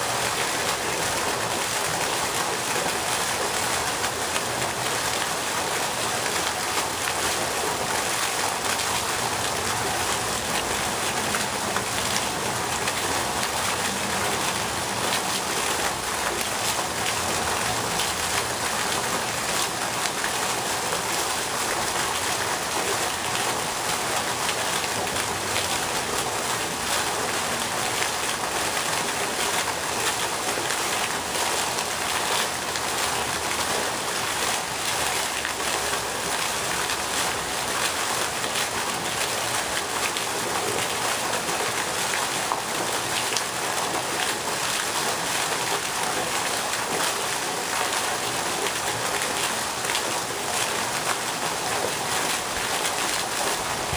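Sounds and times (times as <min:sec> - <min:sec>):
fountain water splashing: 0:00.0 - 0:53.9.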